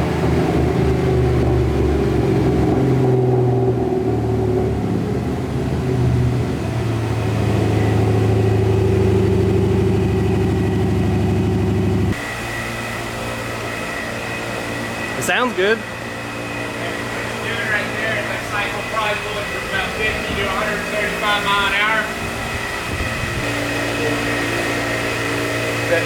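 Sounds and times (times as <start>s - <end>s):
car engine running under load: 0.0s - 26.0s
cooling fan humming: 0.0s - 26.0s.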